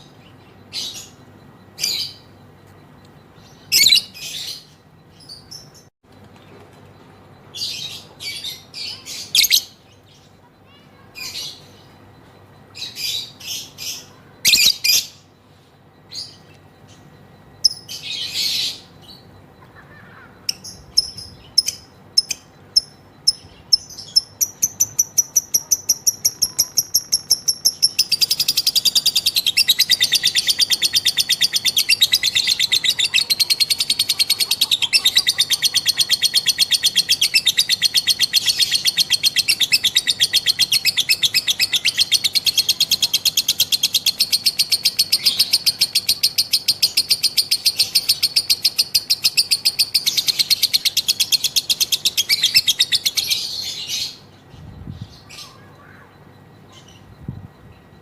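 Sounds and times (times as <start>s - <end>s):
lovebird chirping and trilling: 0.0s - 5.9s, 7.5s - 12.1s, 12.7s - 15.3s, 16.1s - 58.0s.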